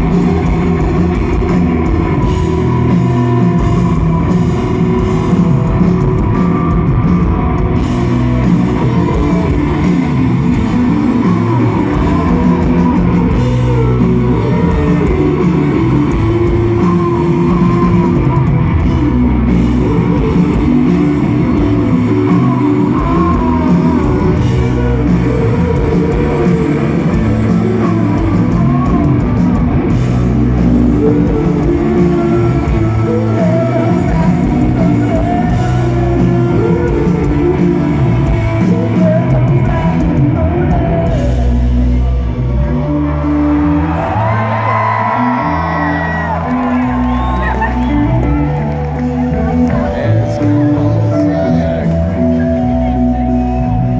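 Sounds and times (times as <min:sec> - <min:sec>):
drum kit: 0:00.0 - 0:53.9
electric guitar: 0:00.0 - 0:53.9
person singing: 0:00.0 - 0:53.9.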